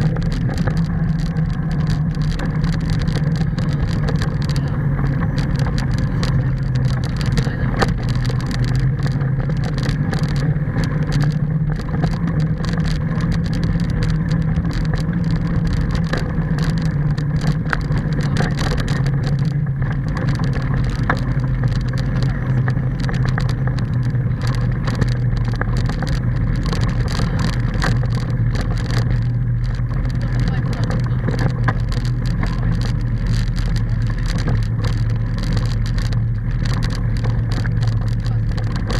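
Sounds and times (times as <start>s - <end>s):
bicycle clicks and rattles: 0.0s - 38.9s
bicycle rolling on concrete: 0.0s - 38.9s
wind noise: 0.0s - 38.9s.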